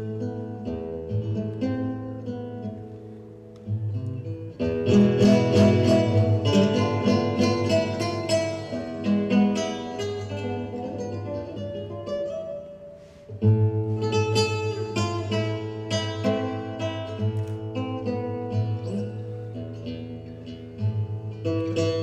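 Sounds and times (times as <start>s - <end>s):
plucked strings music: 0.0s - 22.0s.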